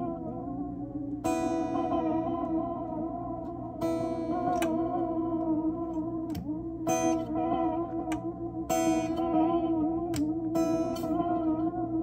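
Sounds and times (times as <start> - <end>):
echoing guitar chords: 0.0 - 12.0.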